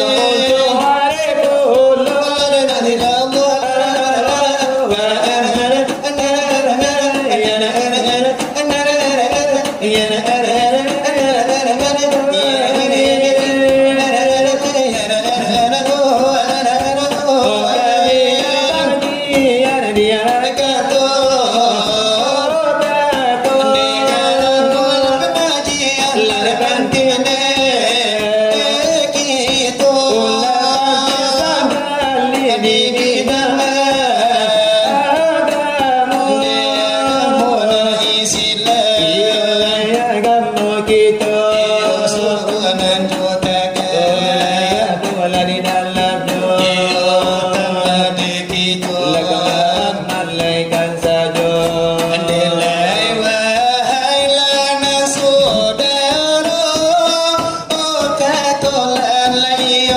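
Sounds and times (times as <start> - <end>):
devotional chanting: 0.0 - 59.9.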